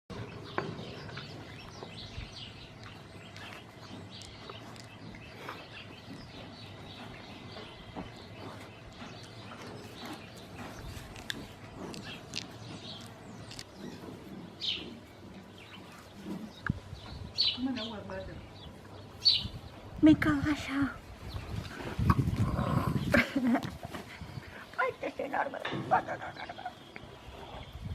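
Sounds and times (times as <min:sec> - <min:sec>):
small birds chirping: 0:00.1 - 0:27.9.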